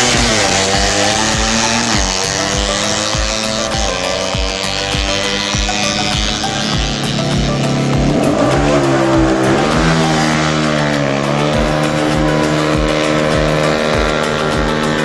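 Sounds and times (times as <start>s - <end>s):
music with thumping beat: 0.0s - 15.0s
racing motorcycle engine revving: 0.0s - 15.0s.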